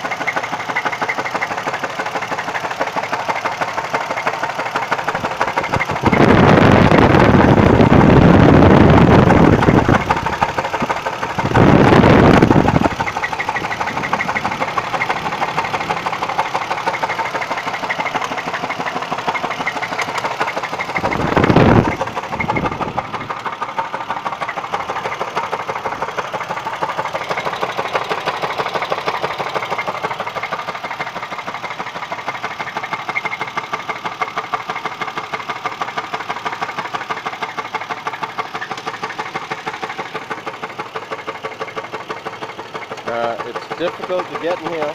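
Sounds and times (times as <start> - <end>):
engine running: 0.0 - 44.9
rapid even engine knock: 0.0 - 44.9.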